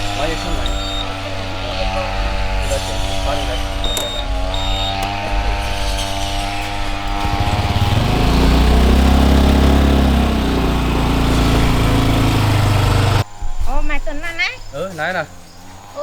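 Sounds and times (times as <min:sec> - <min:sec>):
engine running and revving: 0:00.0 - 0:13.3.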